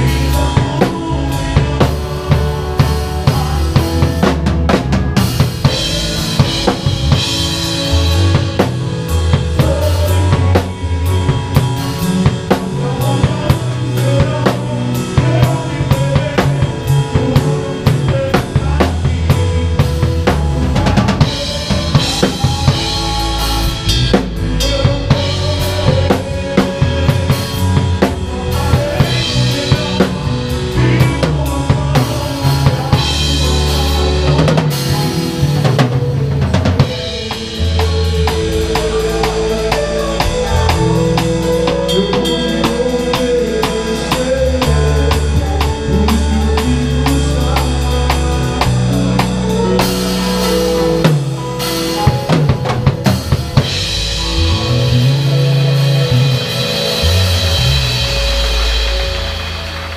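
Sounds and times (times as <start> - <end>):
low bass notes: 0.0 - 59.9.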